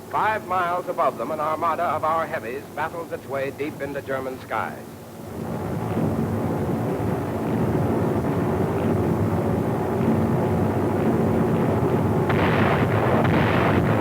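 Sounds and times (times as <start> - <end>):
drone of piston aircraft engines: 0.0 - 14.0.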